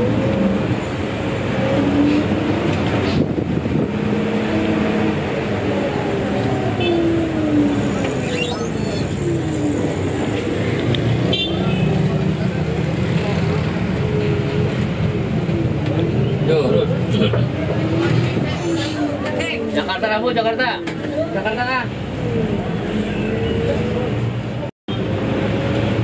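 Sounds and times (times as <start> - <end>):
bus diesel engine running: 0.0 - 26.0
road noise rumble: 0.0 - 26.0.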